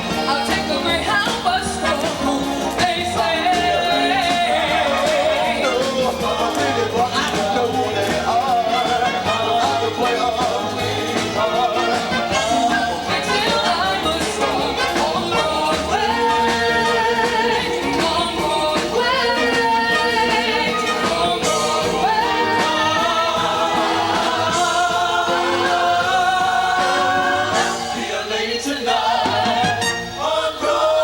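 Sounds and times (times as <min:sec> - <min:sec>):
song with vocals: 0:00.0 - 0:31.0.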